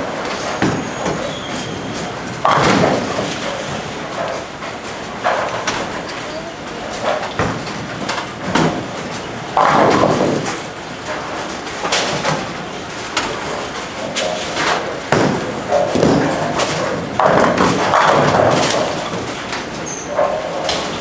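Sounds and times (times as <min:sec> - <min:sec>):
bowling balls thudding on lanes: 0:00.0 - 0:21.0
bowling pins clattering: 0:00.0 - 0:21.0.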